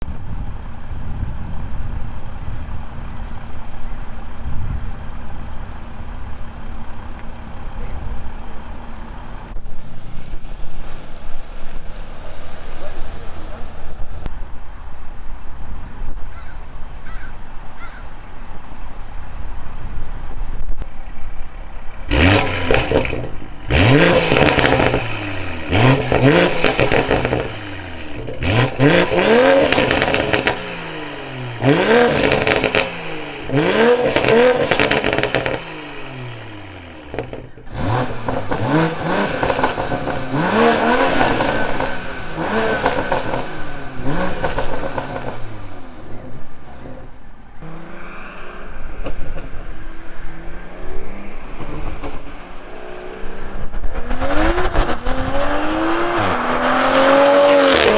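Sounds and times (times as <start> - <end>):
car engine idling and revving: 0.0 - 57.9
exhaust crackles: 0.0 - 57.9.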